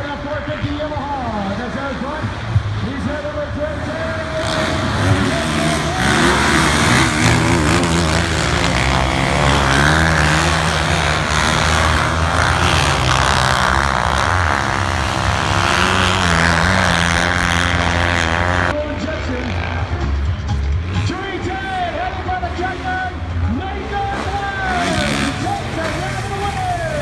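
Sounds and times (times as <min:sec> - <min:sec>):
snowmobile engines revving: 0:00.0 - 0:27.0.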